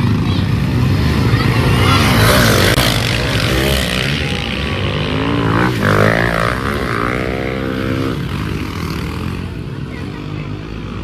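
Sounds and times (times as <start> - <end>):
pit bike engines racing: 0.0 - 11.0.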